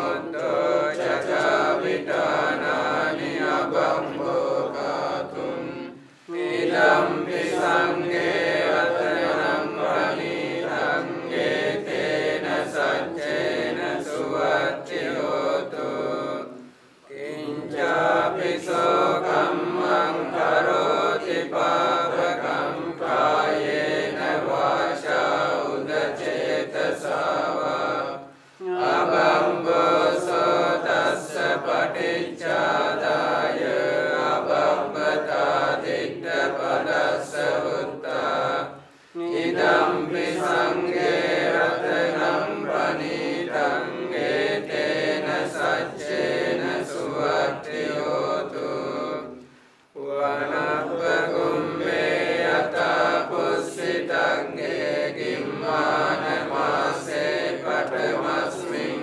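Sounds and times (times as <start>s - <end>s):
monks chanting together: 0.0s - 59.0s.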